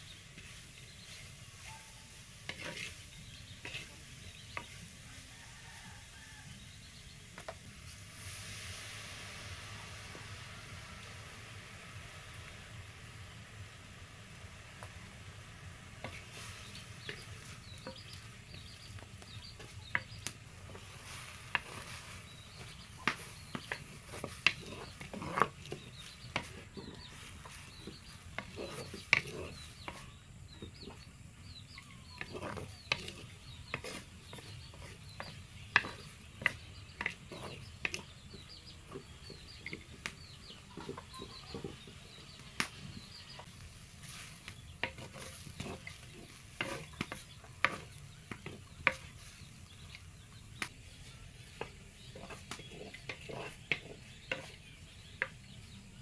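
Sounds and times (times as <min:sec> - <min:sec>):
wooden spatula stirring in clay pot: 0:00.0 - 0:56.0.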